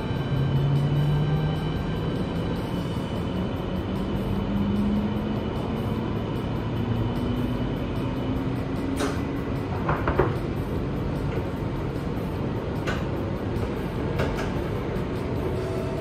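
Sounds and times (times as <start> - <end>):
train running rumble with whine: 0.0 - 16.0.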